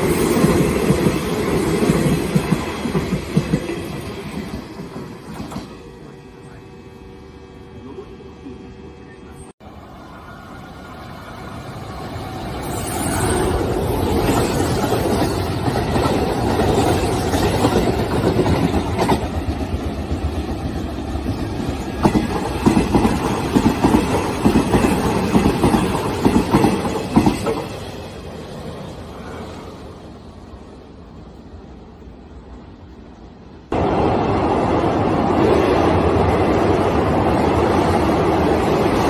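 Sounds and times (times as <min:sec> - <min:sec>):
train wheels and motors rumbling: 0:00.0 - 0:39.0.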